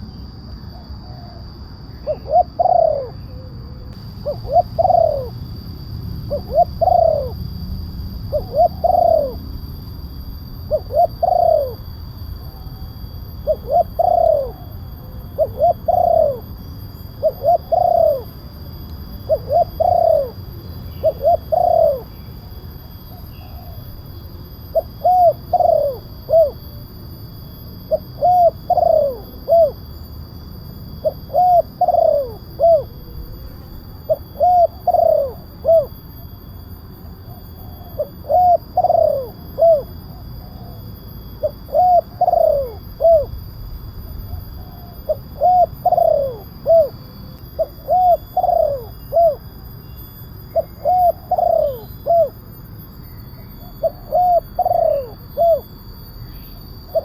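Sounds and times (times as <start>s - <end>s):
steady low hum: 0.0s - 57.0s
dove cooing: 0.7s - 30.0s, 30.8s - 36.4s, 37.1s - 52.6s, 53.4s - 57.0s.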